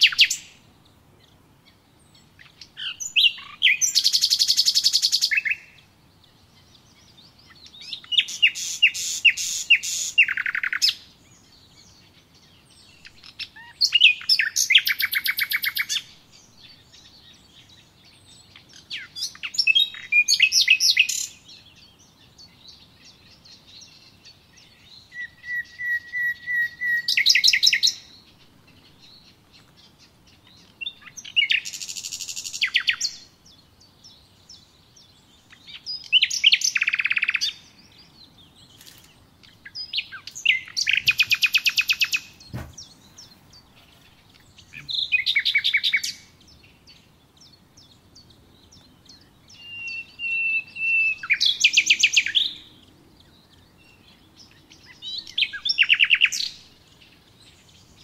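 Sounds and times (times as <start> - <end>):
songbird trilling: 0.0 - 0.6, 1.2 - 58.0.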